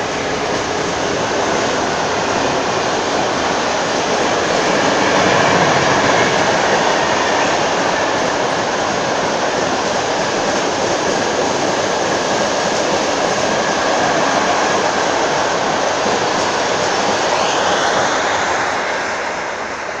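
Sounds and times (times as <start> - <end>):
freight train wheels on rails: 0.0 - 20.0.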